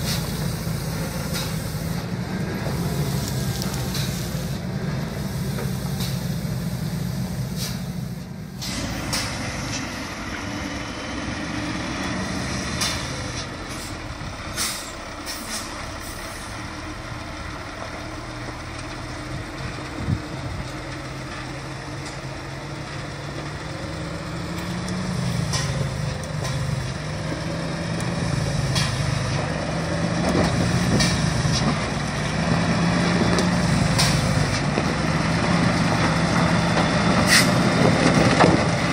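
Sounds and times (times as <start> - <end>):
truck diesel engines labouring: 0.0 - 38.9.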